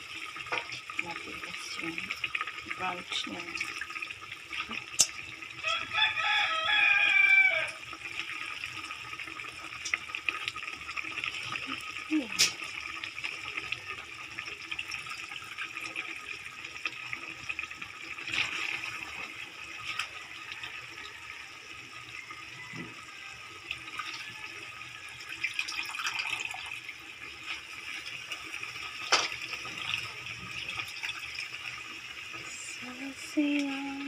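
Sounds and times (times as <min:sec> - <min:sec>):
sauce simmering and sizzling: 0:00.0 - 0:34.0.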